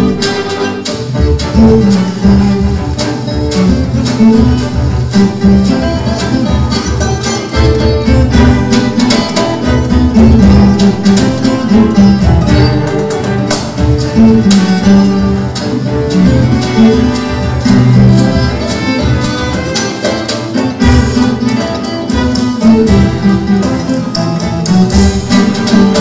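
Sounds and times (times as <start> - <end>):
cello ensemble bowing: 0.0 - 26.0
folk guitar plucked and strummed: 0.0 - 26.0.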